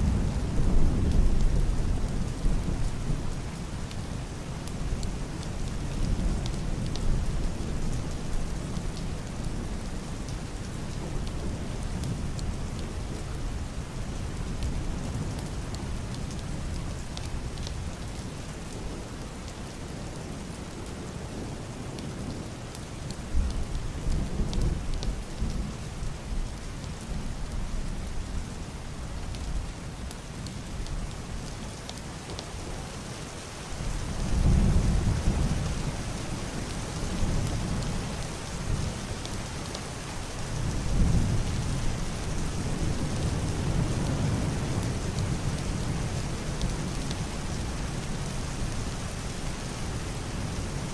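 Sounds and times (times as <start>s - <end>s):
heavy rain on a roof: 0.0s - 50.9s.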